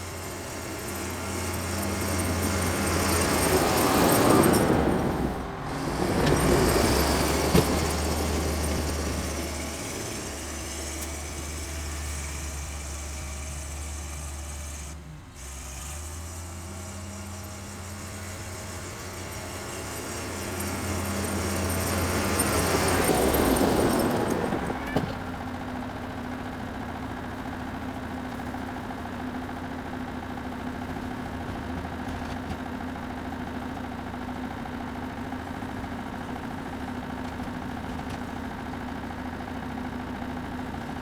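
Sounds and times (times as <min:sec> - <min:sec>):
machine engine droning: 0:00.0 - 0:41.0.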